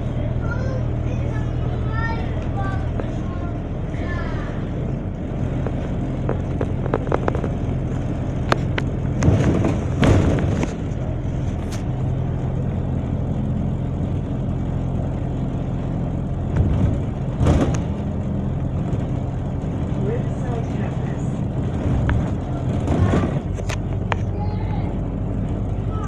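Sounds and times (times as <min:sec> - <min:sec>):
bus body rattling and knocking: 0:00.0 - 0:26.0
bus engine droning: 0:00.0 - 0:26.0.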